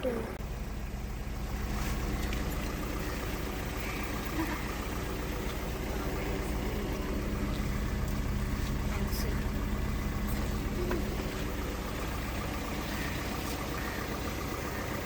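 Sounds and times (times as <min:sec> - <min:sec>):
car engine humming inside car: 0:00.0 - 0:15.0.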